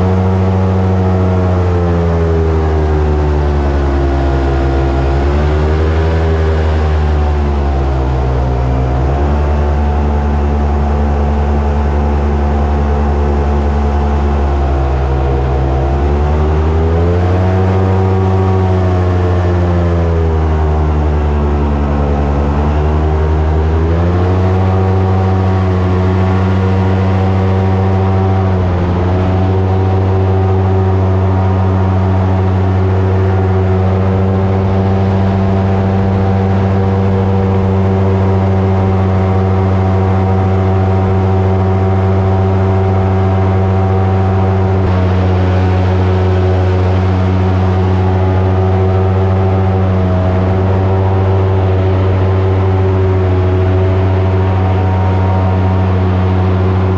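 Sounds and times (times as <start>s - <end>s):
airboat engine and propeller drone: 0.0s - 56.9s.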